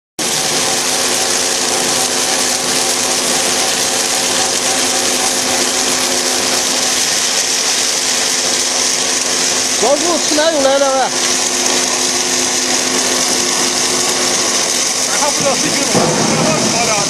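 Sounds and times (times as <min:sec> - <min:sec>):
machine whine: 0:00.2 - 0:17.0.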